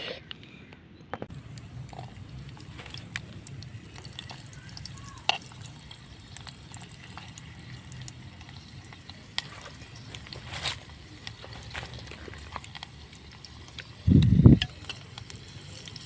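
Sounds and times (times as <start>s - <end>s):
liquid sloshing in a pot: 1.3s - 16.0s
wood fire crackling: 1.3s - 16.0s.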